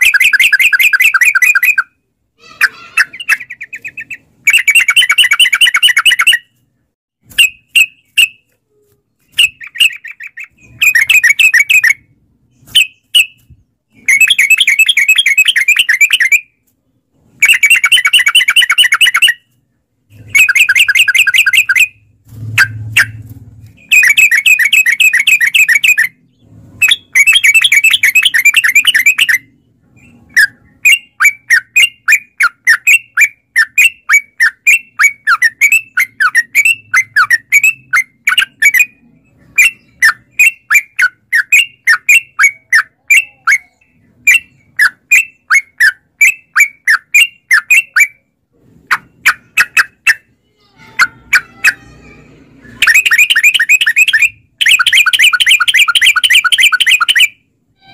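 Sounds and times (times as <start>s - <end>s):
bird chattering song: 0.0s - 6.6s, 9.2s - 48.3s, 48.9s - 50.4s, 52.6s - 57.4s
soft bird calls: 0.0s - 6.7s, 7.4s - 50.4s.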